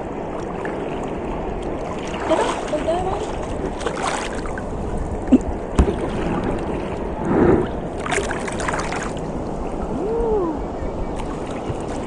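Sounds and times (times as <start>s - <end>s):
surf rushing: 0.0s - 12.0s
wind: 0.0s - 12.0s.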